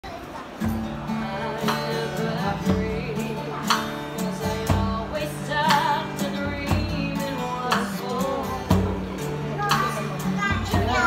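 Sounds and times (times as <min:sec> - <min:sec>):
acoustic guitar: 0:00.0 - 0:11.0
woman singing: 0:01.1 - 0:11.0.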